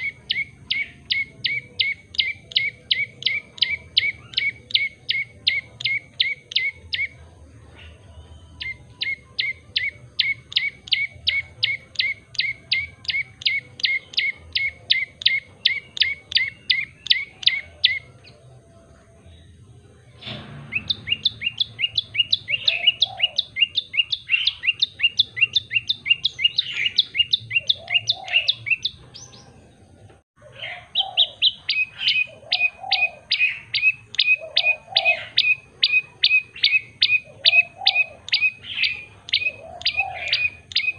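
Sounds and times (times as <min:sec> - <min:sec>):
bird singing sharp chip notes: 0:00.0 - 0:40.9
faint low bird calls: 0:00.0 - 0:40.9.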